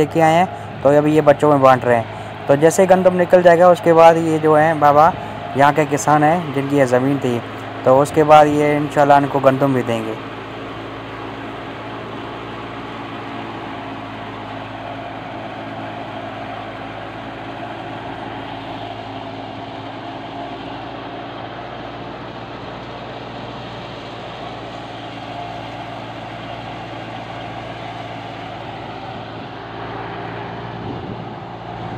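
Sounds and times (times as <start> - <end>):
thresher and tractor engine droning: 0.0 - 31.9.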